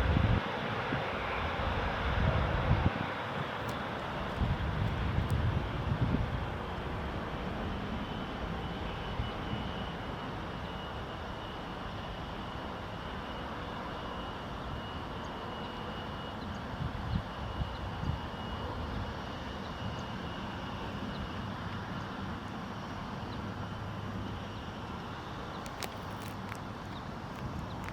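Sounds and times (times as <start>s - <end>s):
faint high engine whine: 0.0s - 27.9s
jet engines during takeoff: 0.0s - 27.9s.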